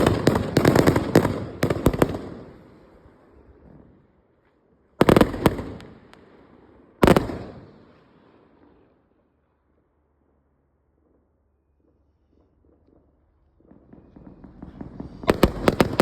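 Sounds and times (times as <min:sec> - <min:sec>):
fireworks exploding: 0:00.0 - 0:04.2, 0:05.0 - 0:08.9, 0:10.8 - 0:16.0.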